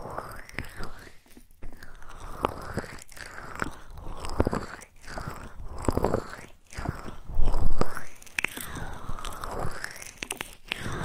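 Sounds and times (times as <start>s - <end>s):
crackling and scratching on microphone: 0.0s - 11.0s.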